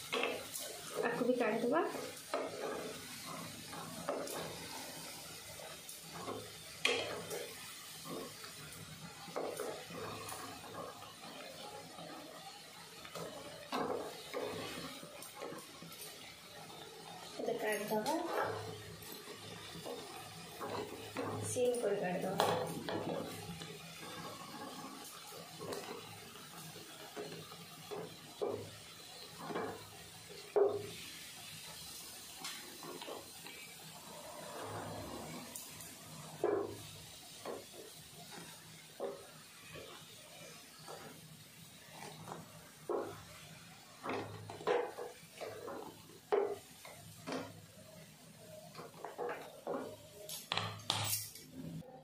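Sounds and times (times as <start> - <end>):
deep-frying sizzle and bubbling: 0.0 - 52.0.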